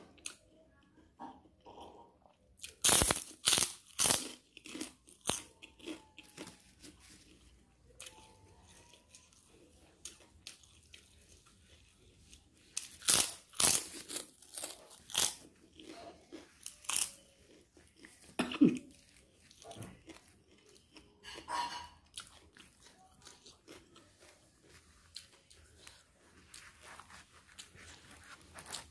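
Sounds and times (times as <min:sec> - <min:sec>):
person chewing and crunching: 0:00.0 - 0:28.9.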